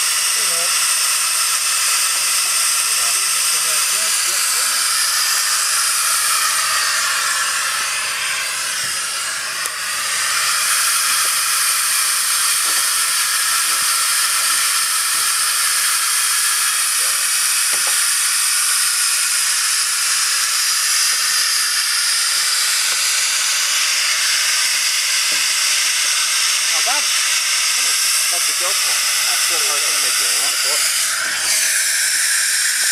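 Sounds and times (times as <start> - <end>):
steam hissing from safety valve: 0.0 - 32.9.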